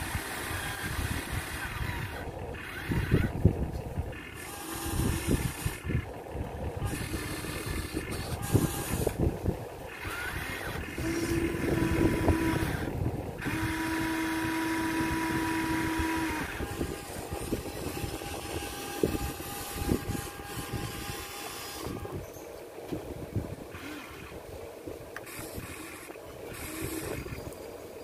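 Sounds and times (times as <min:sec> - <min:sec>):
toy excavator motors whining: 0:00.0 - 0:22.5, 0:23.6 - 0:24.5, 0:25.2 - 0:27.8.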